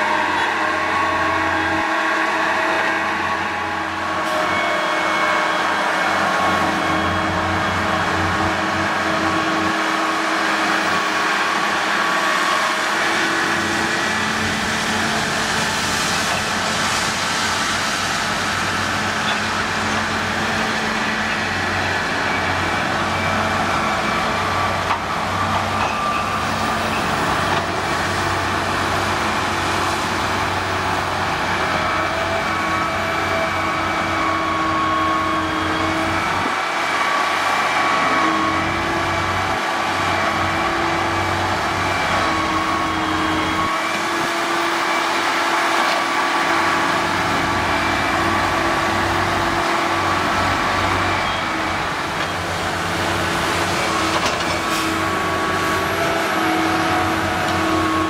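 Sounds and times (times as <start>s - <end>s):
excavators running: 0.0s - 58.0s.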